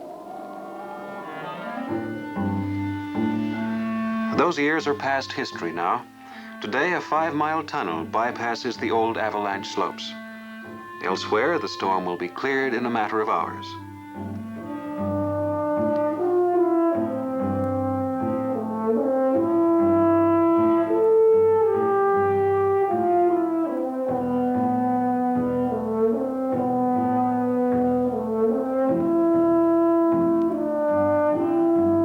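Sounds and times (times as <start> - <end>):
horns playing slow melody: 0.0 - 32.0
low orchestral accompaniment: 0.0 - 32.0.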